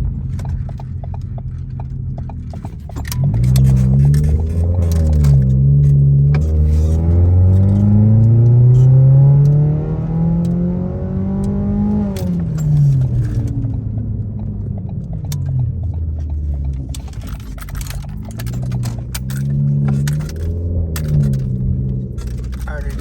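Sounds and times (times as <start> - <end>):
car exhaust engine revving: 0.0 - 23.0.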